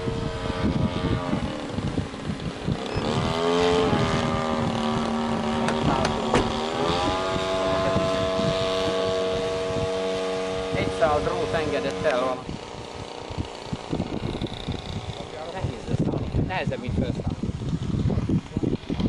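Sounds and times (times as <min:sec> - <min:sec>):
model plane motor buzzing: 0:00.0 - 0:19.0
wind buffeting microphone: 0:00.0 - 0:19.0.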